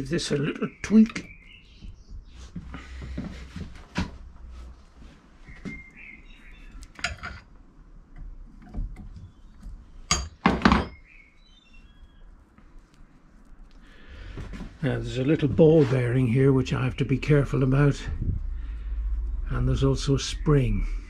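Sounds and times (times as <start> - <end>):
birds chirping: 0.0 - 4.4, 5.0 - 21.0.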